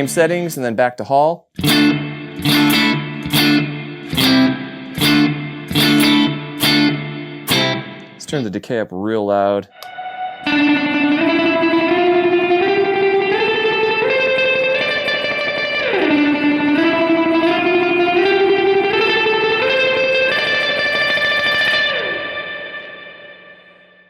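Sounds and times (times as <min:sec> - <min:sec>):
electric guitar with long reverb: 0:01.6 - 0:08.4, 0:09.7 - 0:24.0.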